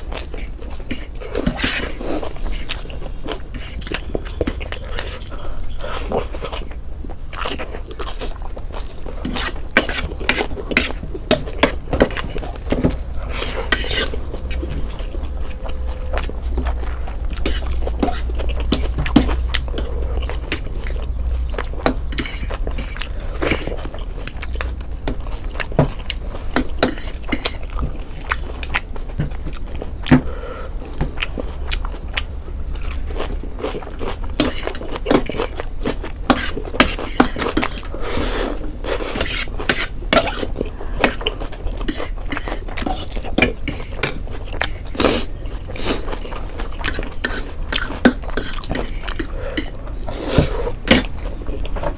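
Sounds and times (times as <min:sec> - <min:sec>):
chewing: 0:00.0 - 0:51.9
steady low hum: 0:00.0 - 0:51.9.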